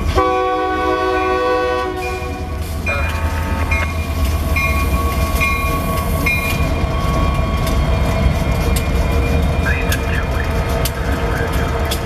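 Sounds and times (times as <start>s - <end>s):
diesel locomotive rumbling past: 0.0s - 12.0s
grade-crossing bell ringing: 2.0s - 12.0s.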